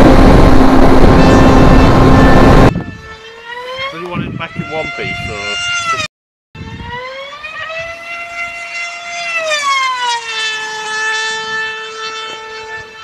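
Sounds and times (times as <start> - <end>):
model plane motor whine: 0.0 - 13.0.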